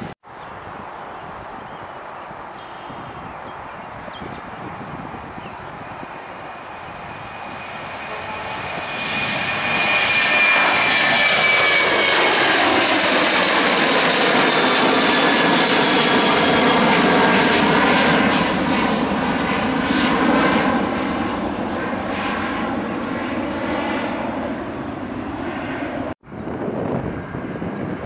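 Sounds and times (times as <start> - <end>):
jet airliner passing: 0.0 - 28.0.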